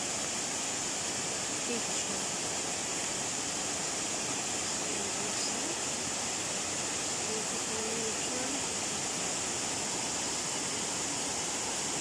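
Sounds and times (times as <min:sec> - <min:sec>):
waterfall rushing over rocks: 0:00.0 - 0:12.0.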